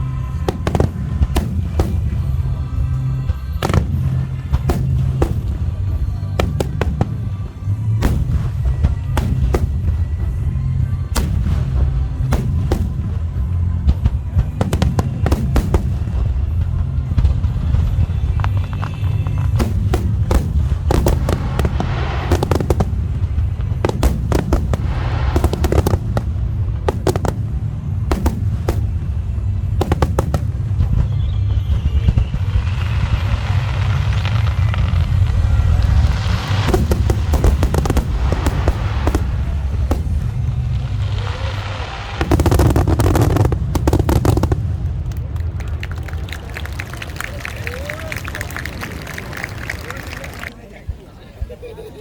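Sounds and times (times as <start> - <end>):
low rumble: 0.0 - 46.8
music playing: 0.0 - 47.3
fireworks bangs and crackles: 0.0 - 51.9.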